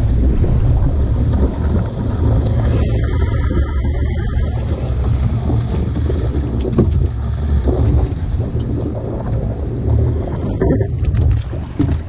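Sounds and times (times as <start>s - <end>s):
boat engine drone: 0.0s - 12.0s
water noise: 0.0s - 12.0s
wind rumble on microphone: 0.0s - 12.0s.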